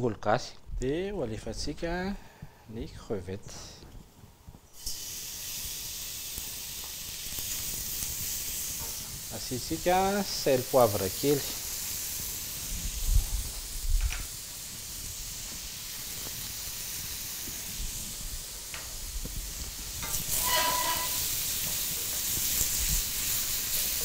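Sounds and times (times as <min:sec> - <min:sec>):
shrimp sizzling in hot oil: 0:04.7 - 0:24.0.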